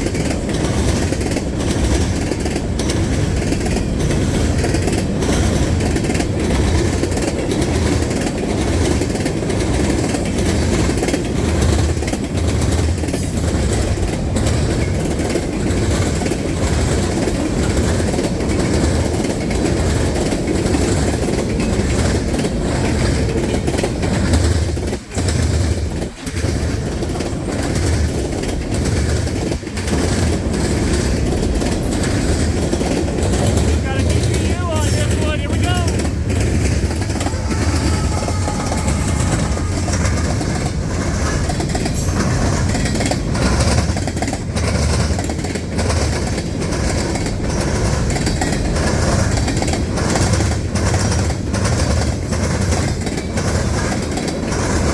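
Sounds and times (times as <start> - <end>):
train wheels clacking over rail joints: 0.0 - 54.9.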